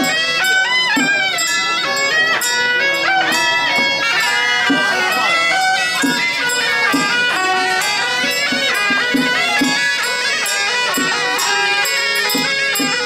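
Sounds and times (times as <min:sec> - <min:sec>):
drum beats: 0:00.0 - 0:13.0
reedy wind instruments melody: 0:00.0 - 0:13.0.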